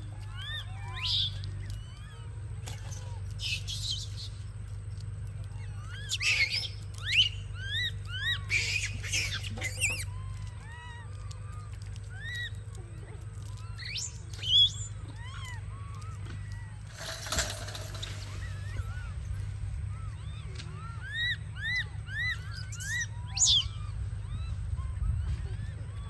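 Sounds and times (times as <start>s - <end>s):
monkeys squealing and screeching: 0.0s - 26.0s.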